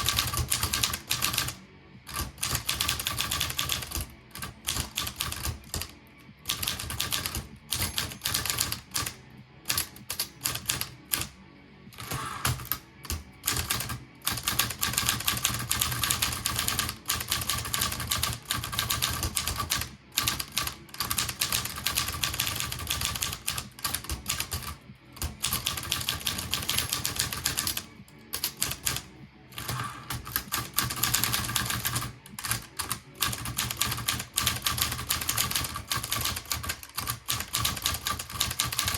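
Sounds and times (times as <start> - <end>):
typewriter typing: 0.0 - 11.3, 12.0 - 29.0, 29.6 - 38.9.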